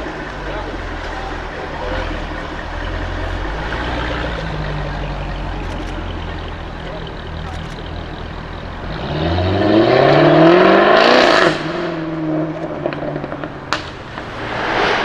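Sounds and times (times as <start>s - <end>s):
car engine accelerating: 0.0s - 15.0s
exhaust crack: 0.0s - 15.0s.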